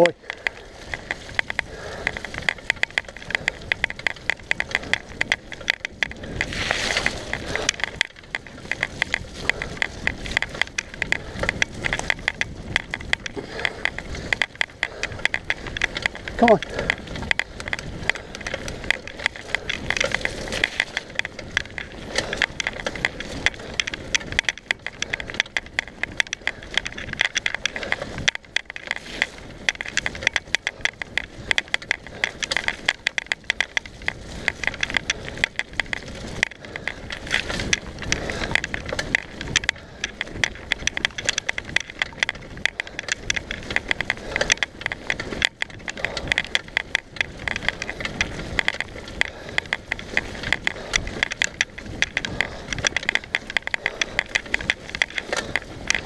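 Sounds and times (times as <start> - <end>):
mountain bike rattling: 0.0 - 56.0
tyre noise on dirt: 0.0 - 56.0.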